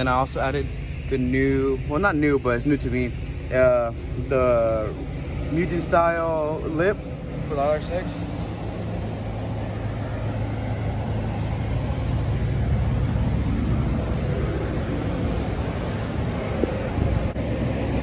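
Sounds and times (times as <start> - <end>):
outdoor traffic noise: 0.0 - 18.0
vehicle engine running: 0.0 - 18.0.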